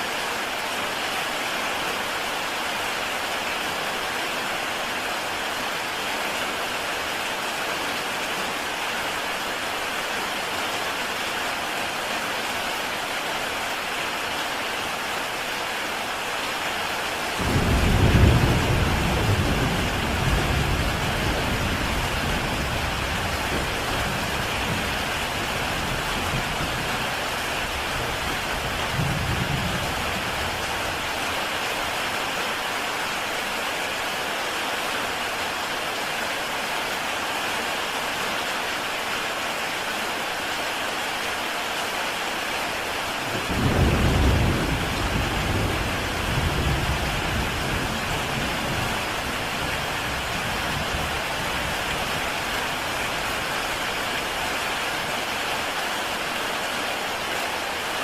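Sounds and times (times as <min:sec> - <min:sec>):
heavy rain on a tile roof: 0:00.0 - 0:58.0.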